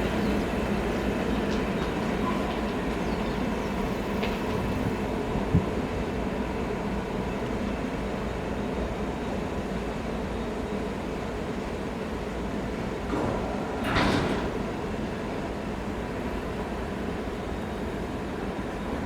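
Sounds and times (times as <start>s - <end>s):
tram rail rumble: 0.0s - 19.0s.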